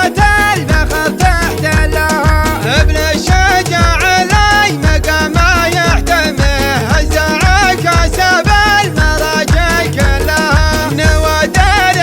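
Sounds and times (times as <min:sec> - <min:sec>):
steady low beat: 0:00.0 - 0:11.8
voice chanting sung phrases: 0:00.0 - 0:12.0.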